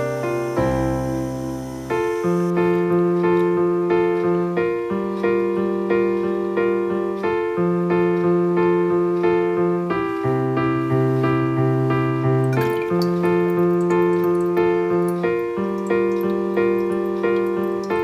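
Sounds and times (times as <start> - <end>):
piano-like keyboard notes: 0.0 - 18.0.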